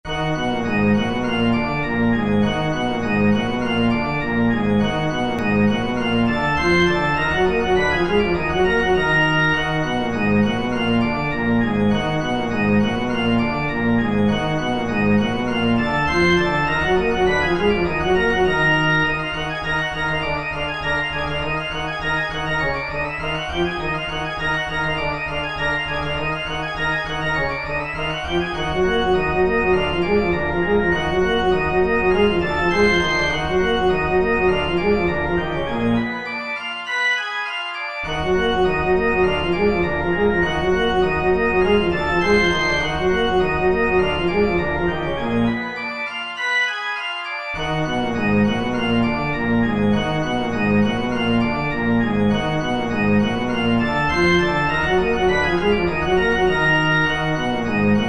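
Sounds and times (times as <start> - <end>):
organ-like keyboard chords: 0.1 - 58.0.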